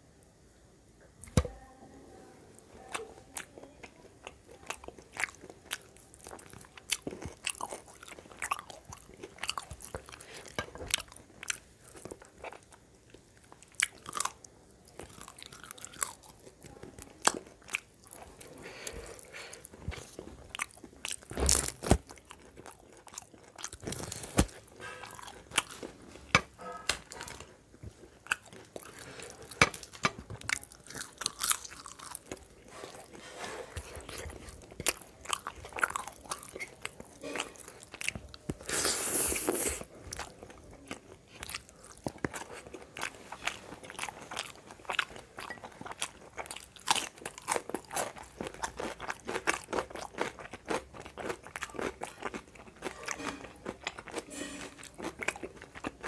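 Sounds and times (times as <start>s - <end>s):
crisp crunching of food: 2.8s - 56.0s
wet chewing: 2.8s - 56.0s.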